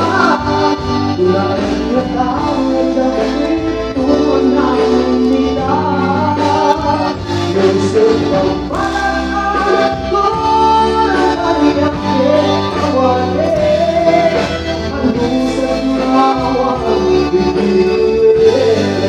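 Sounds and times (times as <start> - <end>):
held instrumental notes: 0.0 - 19.0
person singing a melody: 0.0 - 19.0
steady bass line: 0.0 - 19.0.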